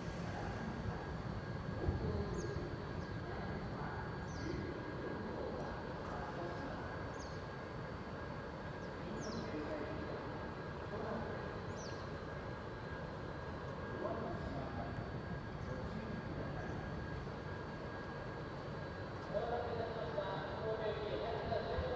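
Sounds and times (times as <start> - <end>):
low background hum: 0.0 - 21.9.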